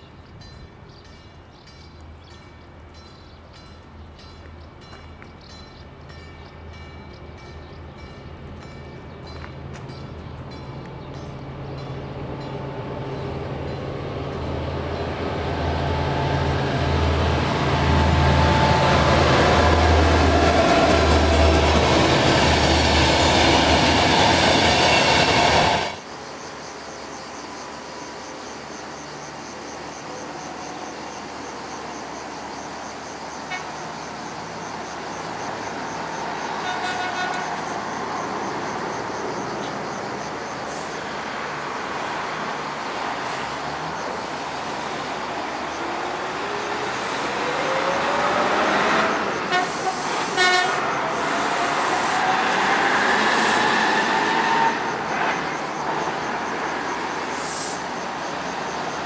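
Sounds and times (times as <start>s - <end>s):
diesel locomotive engine rumble: 0.0s - 59.0s
diesel train humming: 0.0s - 59.0s
train wheel and coach noise: 0.0s - 59.0s.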